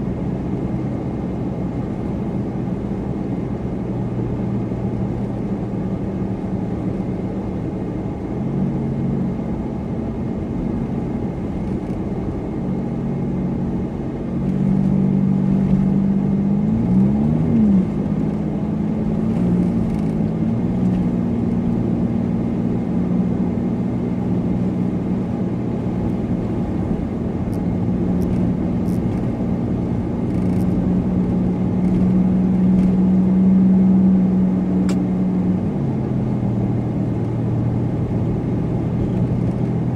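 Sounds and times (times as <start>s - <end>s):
car engine cruising: 0.0s - 39.9s
road and tyre noise: 0.0s - 39.9s.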